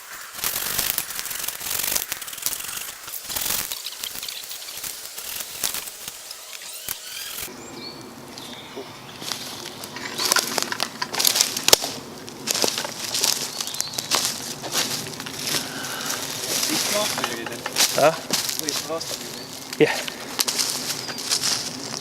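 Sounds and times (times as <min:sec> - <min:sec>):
dry sticks crunching and snapping: 0:00.1 - 0:07.5, 0:09.2 - 0:22.0.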